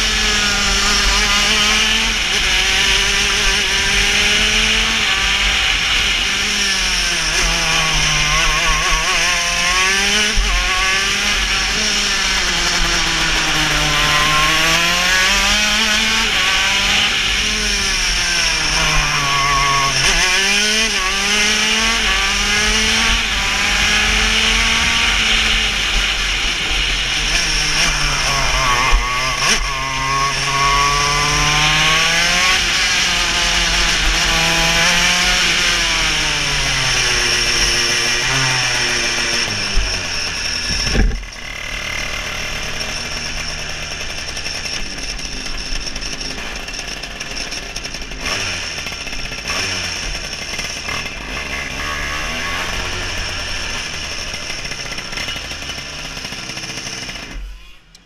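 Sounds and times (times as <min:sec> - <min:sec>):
kart engine at high revs: 0:00.0 - 0:58.0.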